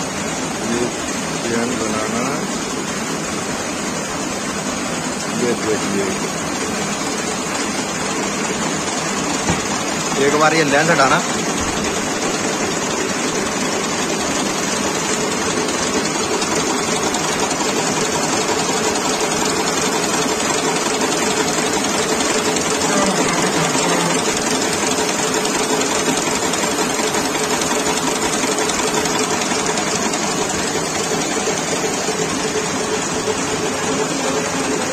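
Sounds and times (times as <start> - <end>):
machine clattering and humming: 0.0 - 34.9.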